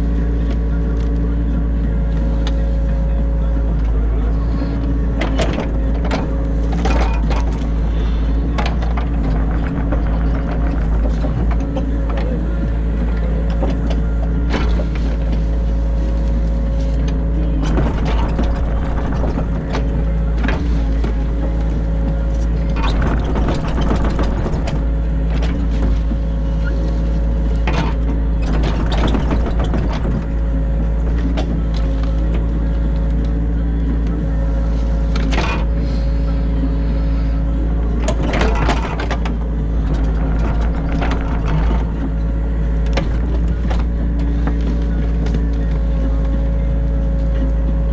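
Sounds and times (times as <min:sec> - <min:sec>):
excavator diesel engine running: 0:00.0 - 0:47.9
machine knocks and clatter: 0:04.8 - 0:15.9, 0:16.6 - 0:36.6, 0:37.4 - 0:47.9.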